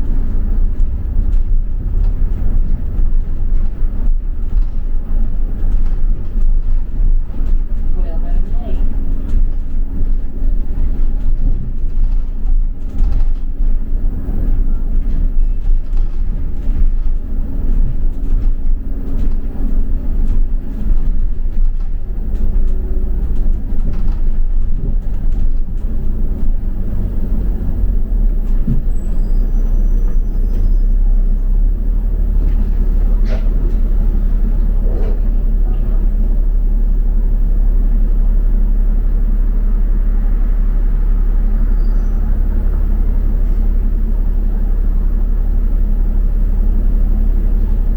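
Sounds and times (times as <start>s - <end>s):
bus engine and road rumble: 0.0s - 47.9s.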